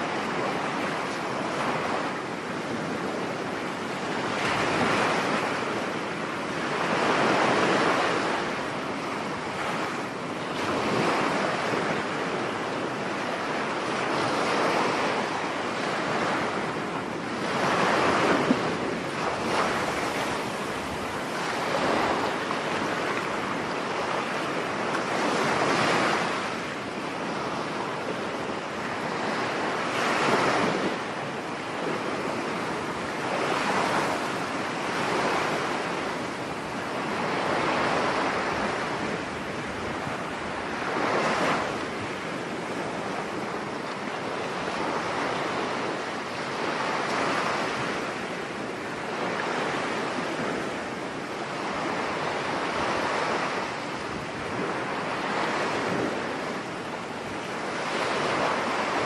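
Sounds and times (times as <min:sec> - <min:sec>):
rough sea surf breaking: 0:00.0 - 0:59.0
wind blowing across microphone: 0:00.0 - 0:59.0.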